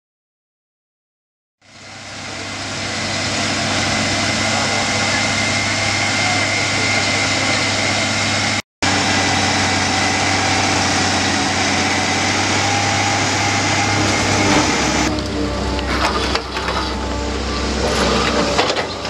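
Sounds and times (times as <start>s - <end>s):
trencher and tractor engines: 1.6s - 19.0s.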